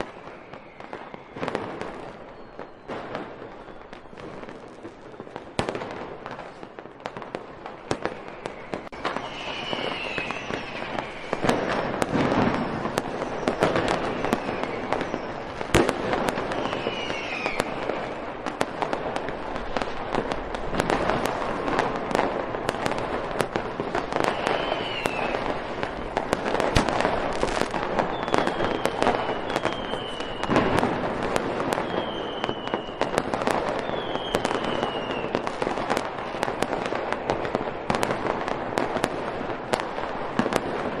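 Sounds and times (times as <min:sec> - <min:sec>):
firework whistles: 0:00.0 - 0:06.7, 0:07.6 - 0:39.1
fireworks bangs and crackling pops: 0:00.0 - 0:41.0.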